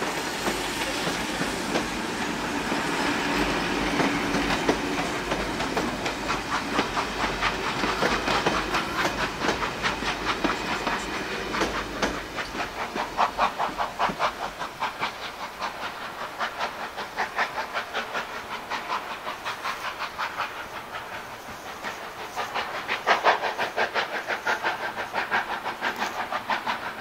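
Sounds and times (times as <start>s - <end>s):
steam hiss: 0.0s - 27.0s
steam locomotive chuffing: 0.0s - 27.0s.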